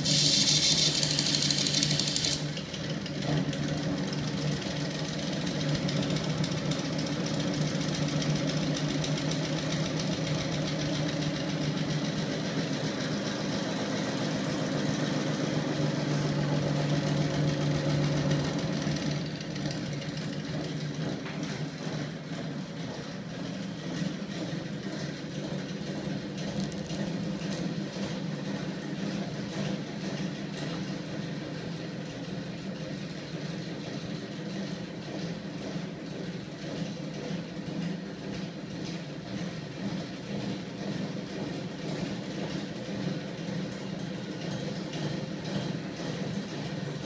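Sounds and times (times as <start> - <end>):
motor hum with fast rattle: 0.0 - 47.0.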